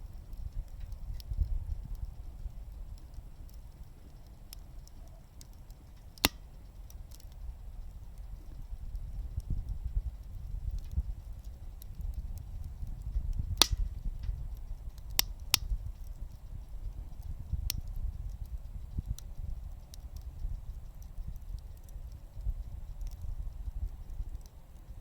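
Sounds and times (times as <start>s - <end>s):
flames rumbling in stove: 0.0s - 25.0s
wood crackling and popping: 0.0s - 25.0s.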